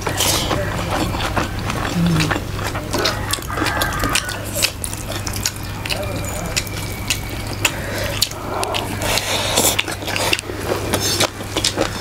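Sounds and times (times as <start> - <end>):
chewing and lip-smacking: 0.0 - 12.0
fingers squishing food on plates: 0.0 - 12.0.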